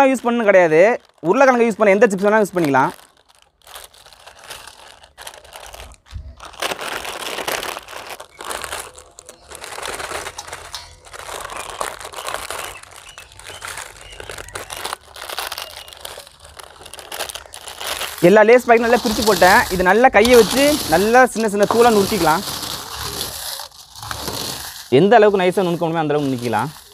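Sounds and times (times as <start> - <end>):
chip packets crinkling: 0.0 - 26.9.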